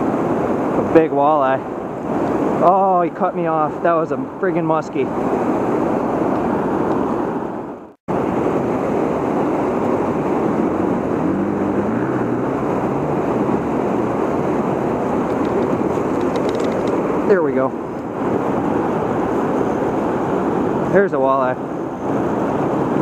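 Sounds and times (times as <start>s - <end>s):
river water rushing over dam: 0.0s - 23.0s.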